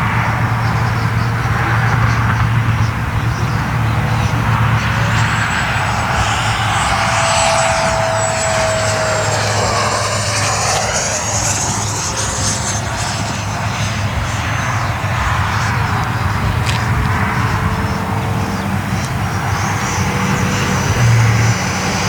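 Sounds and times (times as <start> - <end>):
model jet flying past: 0.0 - 22.0.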